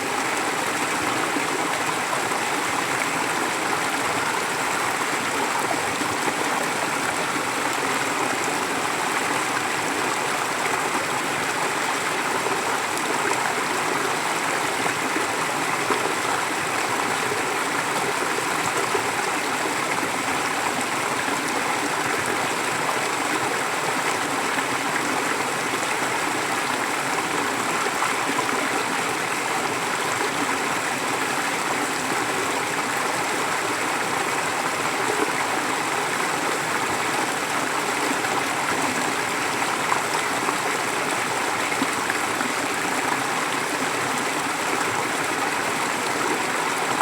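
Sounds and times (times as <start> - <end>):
stream flowing over rocks: 0.0 - 47.0.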